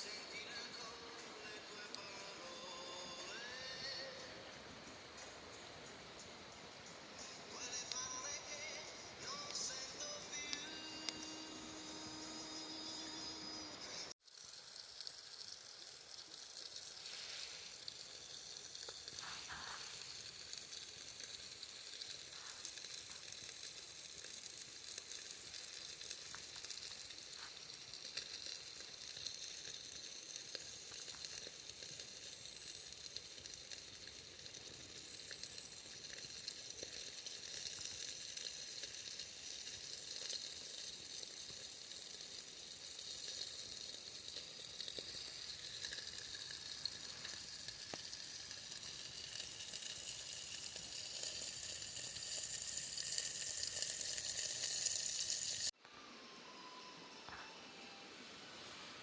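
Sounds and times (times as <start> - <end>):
campfire hissing and crackling: 0.0 - 55.8, 56.5 - 59.0.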